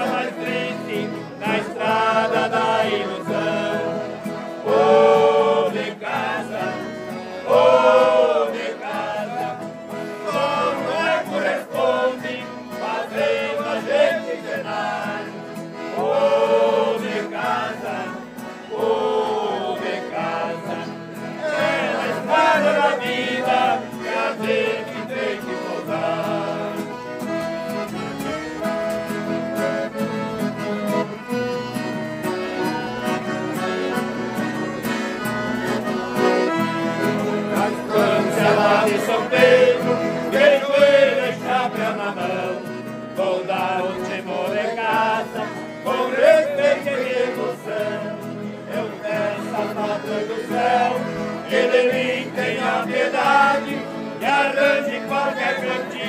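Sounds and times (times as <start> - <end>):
people singing together: 0.0 - 27.0, 37.0 - 56.0
accordion: 0.0 - 56.0.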